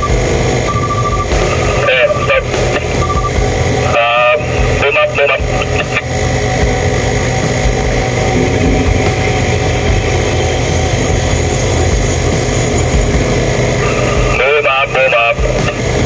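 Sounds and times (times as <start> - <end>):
crane engine rumbling: 0.0 - 16.0.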